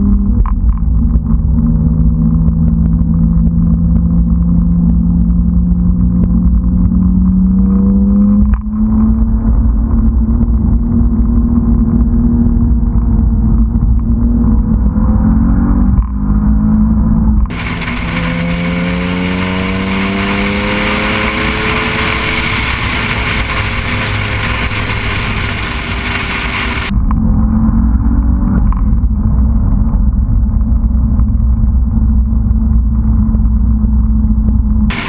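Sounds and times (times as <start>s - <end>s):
car engine droning: 0.0s - 35.0s
road noise: 0.0s - 35.0s.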